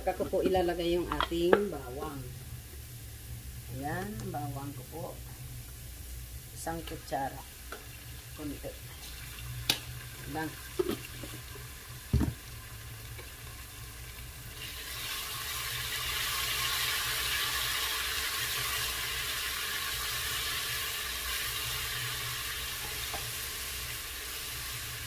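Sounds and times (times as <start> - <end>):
garlic sizzling in oil: 0.0 - 25.0.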